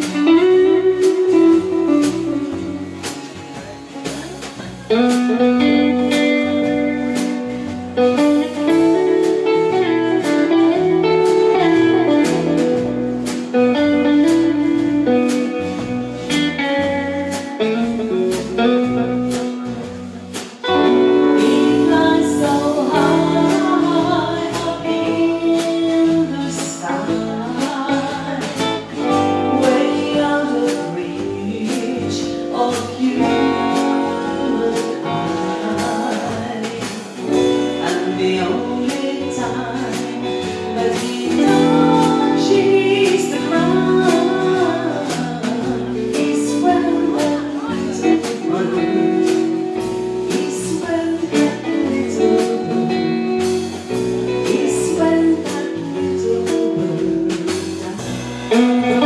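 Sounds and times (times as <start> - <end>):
bass guitar: 0.0 - 59.0
electric guitar: 0.0 - 59.0
steady drum beat: 0.0 - 59.0
woman singing: 0.0 - 59.0.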